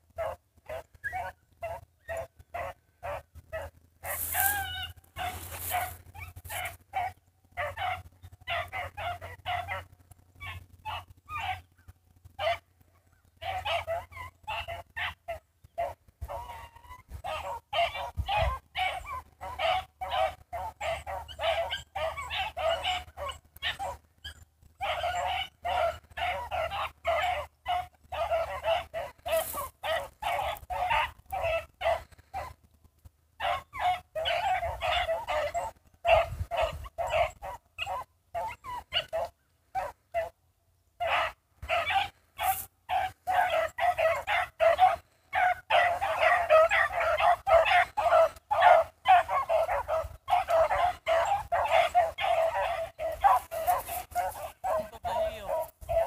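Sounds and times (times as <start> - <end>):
hounds baying and yelping: 0.0 - 56.0.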